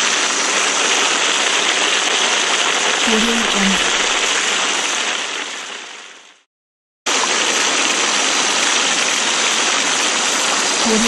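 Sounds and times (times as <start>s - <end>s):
rushing water hiss: 0.0s - 6.4s, 7.1s - 11.0s.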